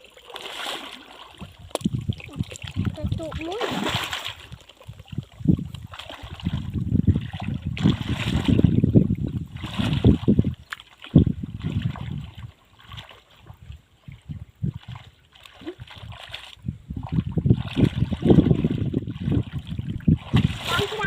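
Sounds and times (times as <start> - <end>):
pond water sloshing and splashing: 0.0 - 21.0.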